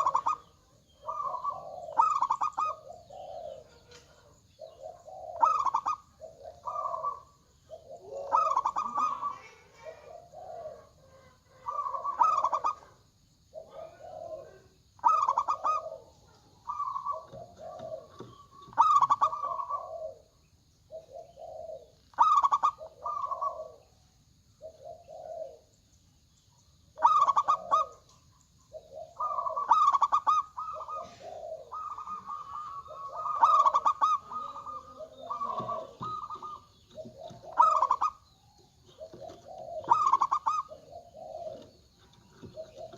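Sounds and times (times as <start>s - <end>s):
doves cooing: 0.0s - 25.8s, 26.8s - 42.9s.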